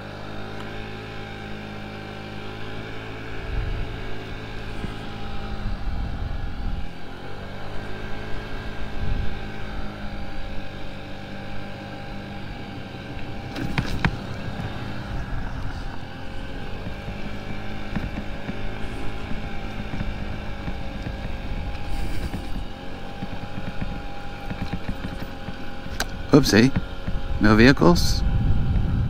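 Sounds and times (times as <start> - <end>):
scooter engine running: 0.0 - 29.0.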